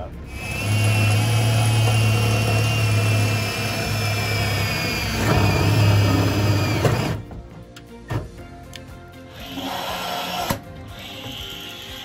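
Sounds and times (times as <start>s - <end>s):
cordless drill motor whining: 0.3s - 7.2s, 9.3s - 12.0s.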